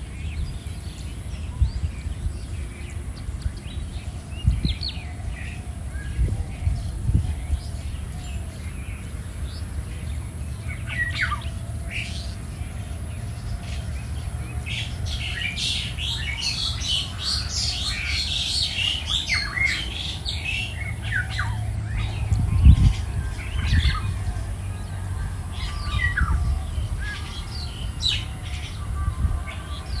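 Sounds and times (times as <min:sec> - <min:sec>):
birds chirping and squawking: 0:00.0 - 0:30.0.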